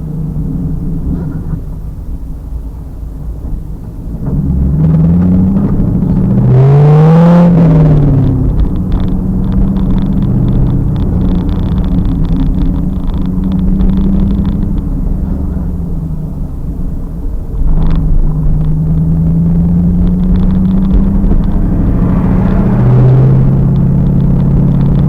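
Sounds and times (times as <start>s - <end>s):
camera rumbling and distortion: 0.0s - 25.0s
car engine revving: 3.5s - 25.0s.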